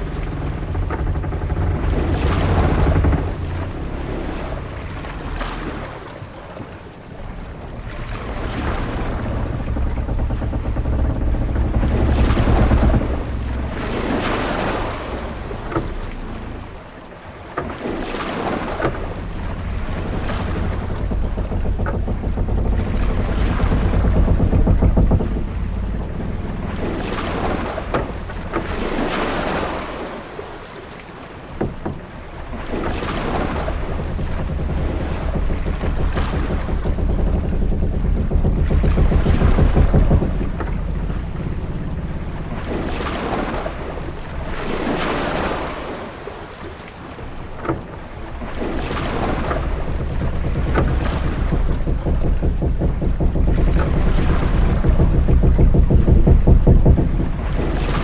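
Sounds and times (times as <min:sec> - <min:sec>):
sharp knocks: 0:00.0 - 0:06.1, 0:07.1 - 0:16.8, 0:17.6 - 0:29.8, 0:31.5 - 0:46.0, 0:47.0 - 0:58.0
low rumble of wind and sea: 0:00.0 - 0:58.0
waves washing against hull: 0:00.0 - 0:58.0.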